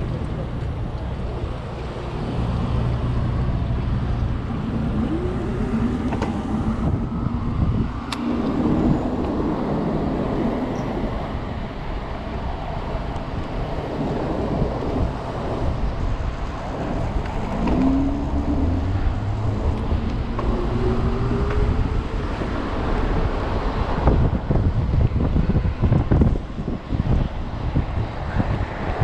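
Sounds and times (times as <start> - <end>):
passing vehicles: 0.0 - 29.0
road traffic noise: 0.0 - 29.0
wind rush on microphone: 0.0 - 29.0.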